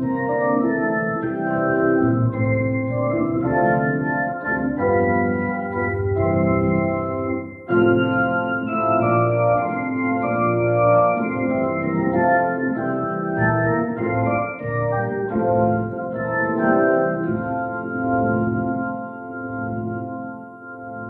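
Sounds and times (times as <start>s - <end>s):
organ playing sustained chords: 0.0s - 21.0s.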